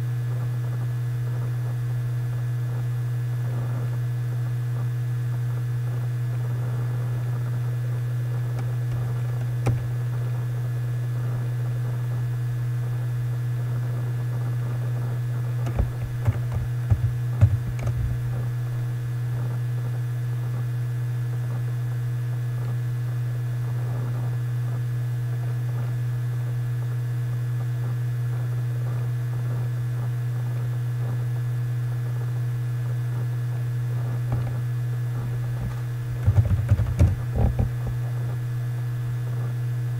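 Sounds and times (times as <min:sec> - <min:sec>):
mains hum: 0:00.0 - 0:39.9.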